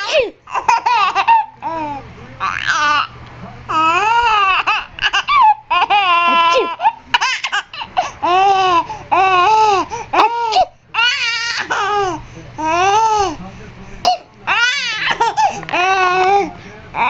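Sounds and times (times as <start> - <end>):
baby laughing: 0.0 - 13.4, 14.5 - 17.0.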